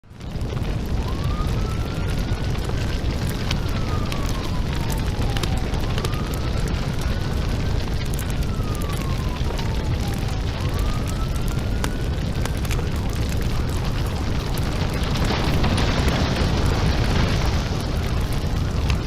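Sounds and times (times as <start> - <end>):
fire burning rumble: 0.0 - 19.0
fire crackling and popping: 0.0 - 19.0
siren wailing: 0.4 - 19.0.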